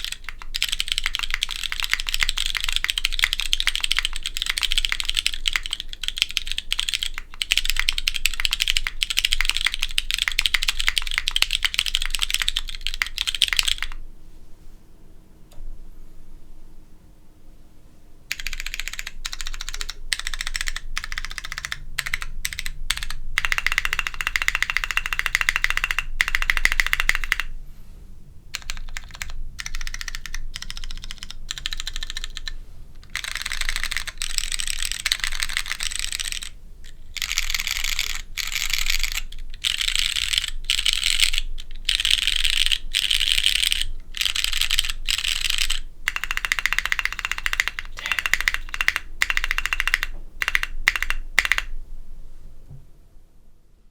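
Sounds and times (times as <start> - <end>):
mechanical keyboard typing: 0.0 - 14.0, 18.3 - 27.5, 28.6 - 51.7.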